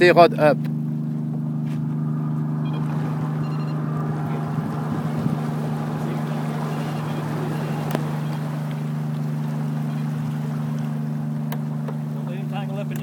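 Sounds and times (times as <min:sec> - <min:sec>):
boat engine droning: 0:00.0 - 0:13.0
wind and water hiss: 0:02.3 - 0:12.9.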